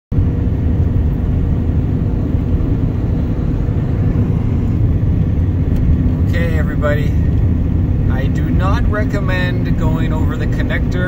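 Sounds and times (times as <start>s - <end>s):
vehicle engine and tyre rumble: 0.1s - 11.0s.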